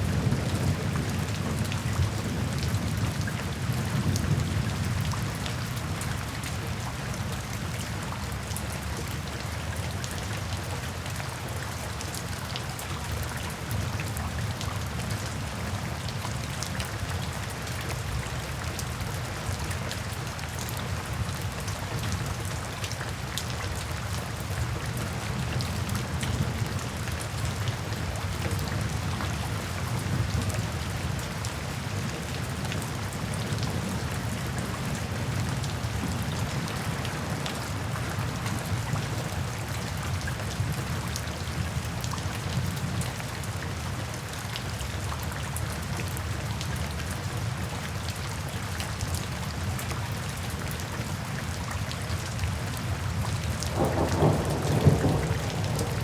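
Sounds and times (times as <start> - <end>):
rain drops on hard surface: 0.0 - 56.0.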